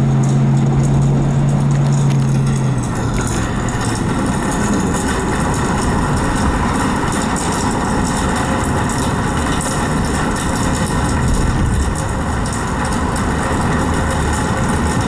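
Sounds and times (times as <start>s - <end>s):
car engine and road noise: 0.0s - 15.0s
low hum: 0.0s - 15.0s.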